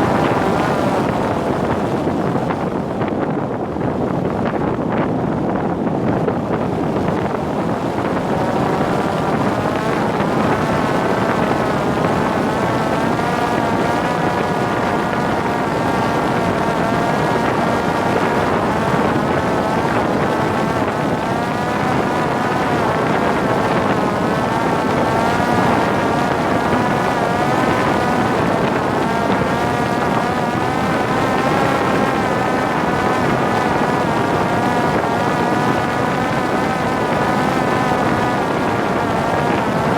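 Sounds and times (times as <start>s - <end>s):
drone propeller whining: 0.0s - 2.7s, 5.6s - 39.9s
wind on microphone: 0.0s - 39.9s.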